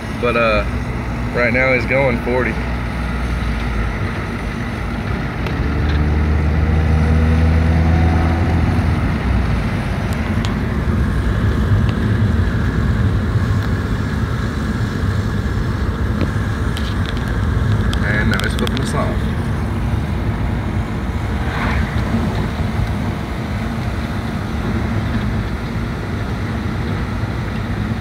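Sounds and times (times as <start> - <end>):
car engine: 0.0 - 28.0
tyres rumbling on road: 0.0 - 28.0.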